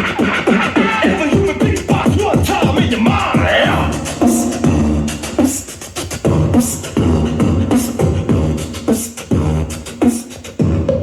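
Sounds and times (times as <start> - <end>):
hip-hop beat through speaker: 0.0 - 11.0.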